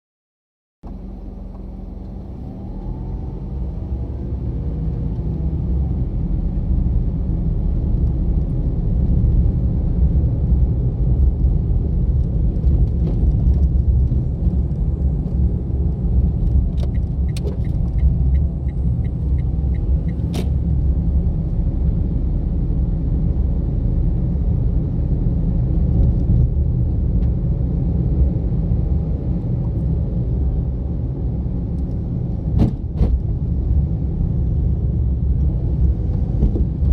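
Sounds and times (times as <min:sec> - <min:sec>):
car engine and tyres rumbling: 0:00.8 - 0:36.9.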